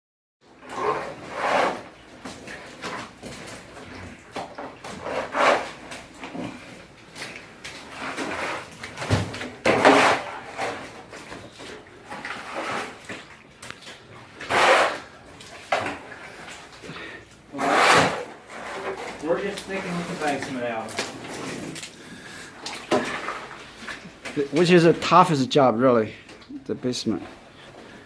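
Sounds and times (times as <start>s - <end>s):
wood and debris scraping: 0.6s - 25.3s.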